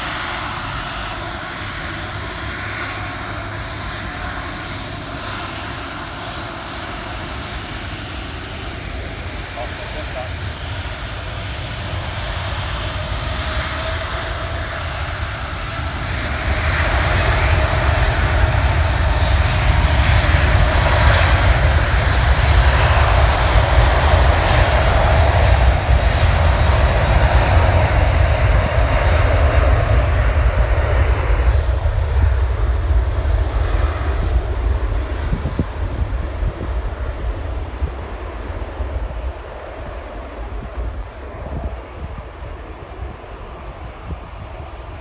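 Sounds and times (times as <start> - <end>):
jet engines at takeoff thrust: 0.0 - 45.0.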